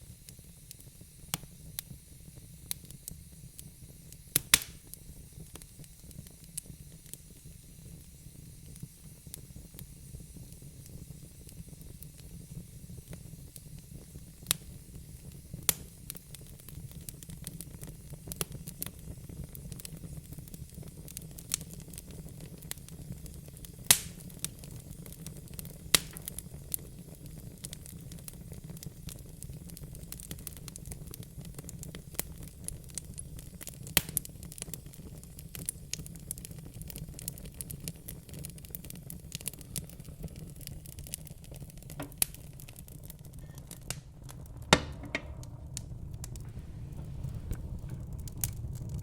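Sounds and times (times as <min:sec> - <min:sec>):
fire crackling and popping: 0:00.0 - 0:49.0
fire flames rumbling and hissing: 0:00.0 - 0:49.0.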